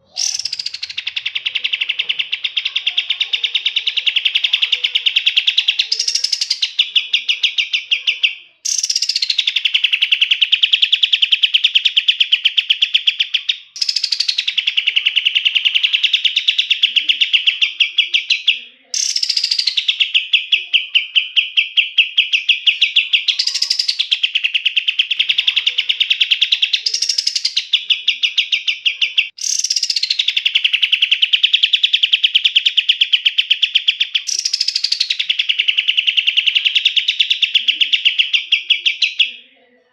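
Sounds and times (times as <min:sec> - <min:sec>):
songbird singing rolling trills: 0:00.0 - 0:39.4.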